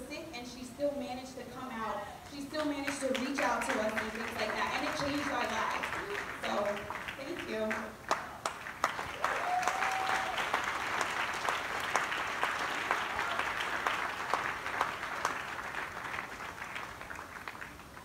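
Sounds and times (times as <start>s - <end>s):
congregation applauding: 2.6s - 18.0s.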